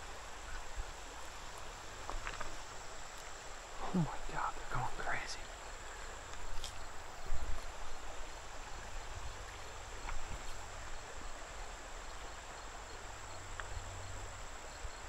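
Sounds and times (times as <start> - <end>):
river running over stones: 0.0 - 14.8
faint insect chirps: 0.0 - 15.0
high insect drone: 0.0 - 15.0.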